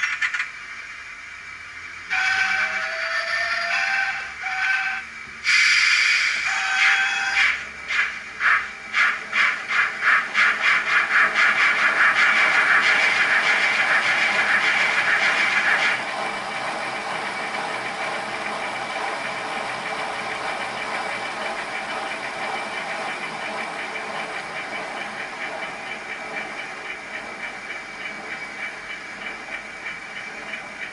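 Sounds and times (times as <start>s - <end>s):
model steam locomotive chuffing: 0.0s - 30.9s.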